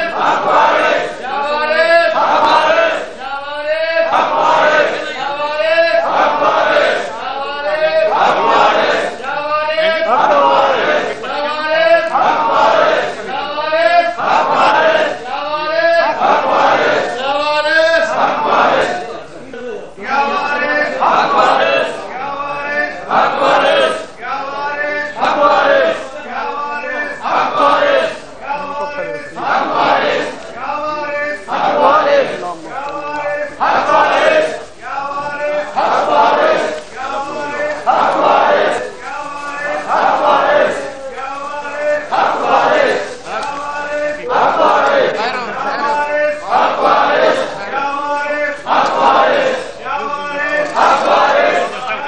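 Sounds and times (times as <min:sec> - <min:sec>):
men chanting in unison: 0:00.0 - 0:19.2, 0:20.1 - 0:52.0.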